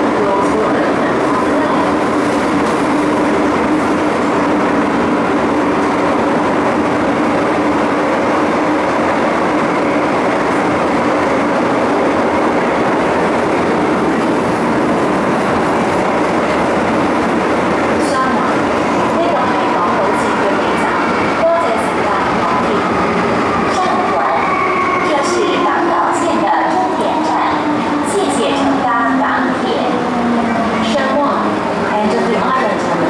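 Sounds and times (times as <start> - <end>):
train rumbling in a tunnel: 0.0 - 33.0.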